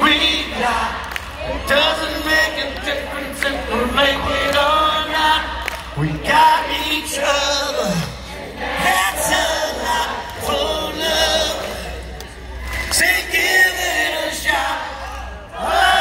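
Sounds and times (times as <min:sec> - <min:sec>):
crowd singing along: 0:00.0 - 0:16.0.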